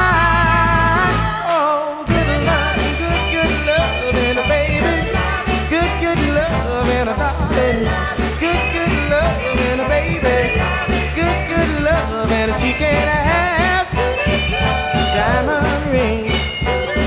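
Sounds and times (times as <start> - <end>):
band playing a song: 0.0 - 17.0
person singing: 0.0 - 17.0.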